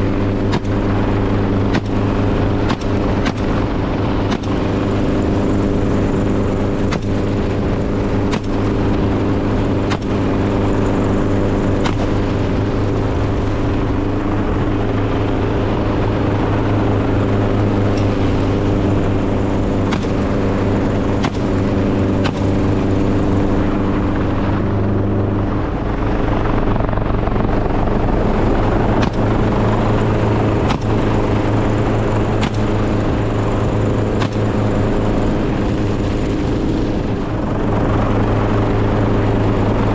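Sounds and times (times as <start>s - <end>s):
engine knocks: 0.0s - 39.9s
engine running: 0.0s - 39.9s.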